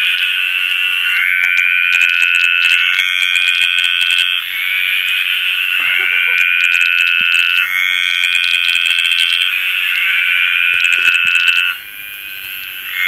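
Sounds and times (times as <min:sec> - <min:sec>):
tree frogs chorus: 0:00.0 - 0:13.0.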